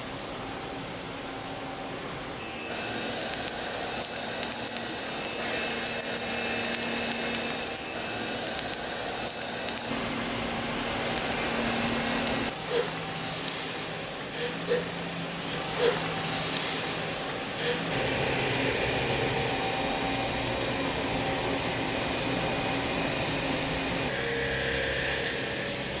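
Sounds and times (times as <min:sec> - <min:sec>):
faint machine whining: 0:00.0 - 0:26.0
metal machining noise: 0:01.7 - 0:26.0.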